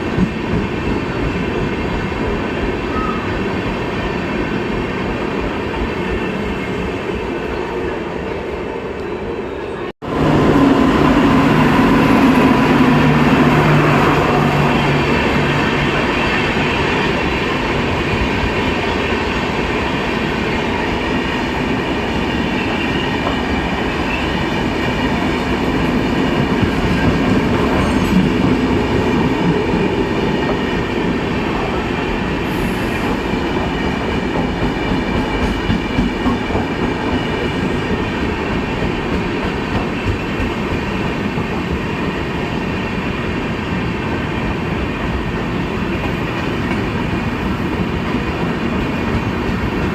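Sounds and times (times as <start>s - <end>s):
train wheels rumbling on rails: 0.0s - 7.6s, 10.0s - 49.9s.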